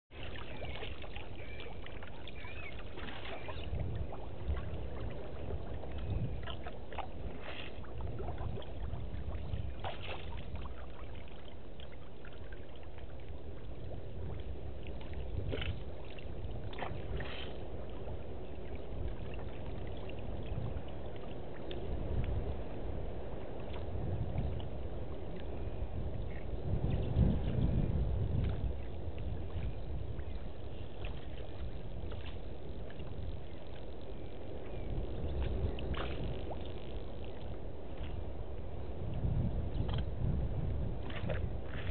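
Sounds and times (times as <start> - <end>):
water sloshing and splashing: 0.1 - 27.6, 28.2 - 41.9
low rumble: 0.2 - 11.2, 12.0 - 41.9.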